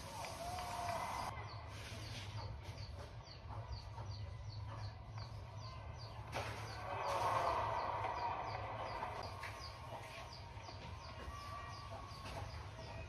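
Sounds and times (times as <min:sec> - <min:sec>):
arena noise: 0:00.0 - 0:13.0.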